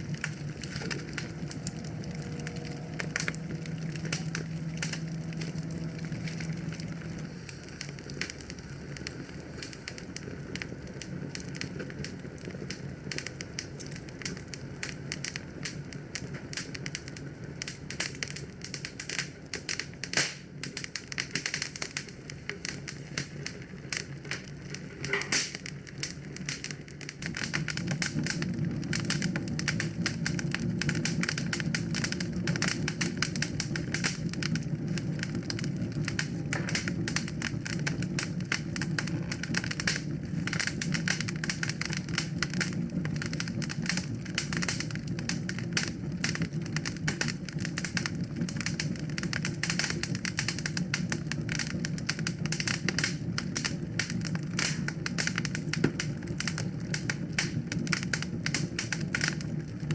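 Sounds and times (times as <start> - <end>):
low steady hum: 0.0 - 18.6, 27.0 - 59.0
wood fire crackling: 0.0 - 59.9.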